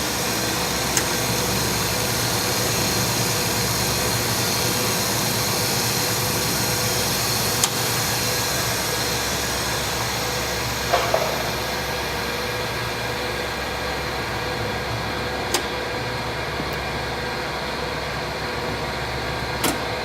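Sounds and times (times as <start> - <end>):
lathe humming: 0.0 - 20.0.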